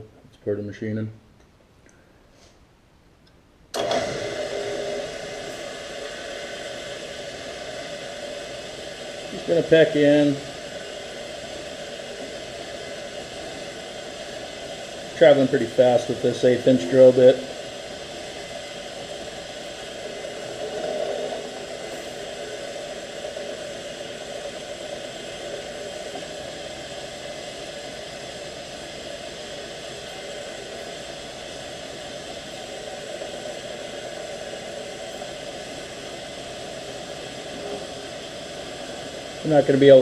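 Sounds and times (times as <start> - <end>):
drilling machine whirring: 3.8 - 40.0.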